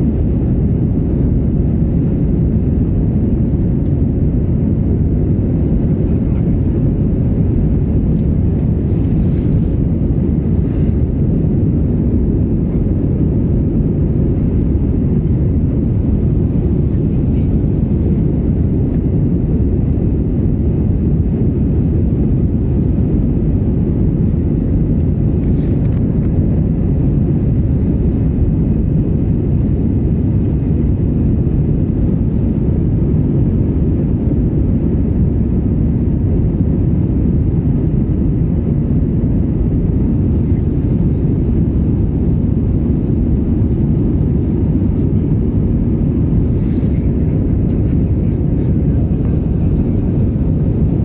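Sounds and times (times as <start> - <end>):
jet airliner cabin noise: 0.0 - 51.0.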